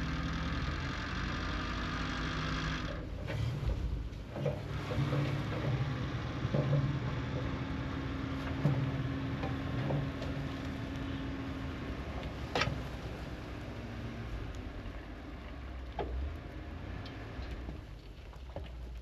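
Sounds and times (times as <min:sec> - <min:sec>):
dump truck engine running: 0:00.0 - 0:18.2.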